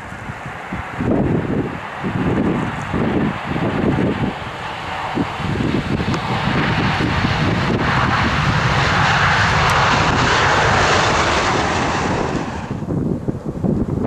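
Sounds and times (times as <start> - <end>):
jet airliner passing: 0.0 - 14.0
wind rumble on microphone: 0.0 - 14.0.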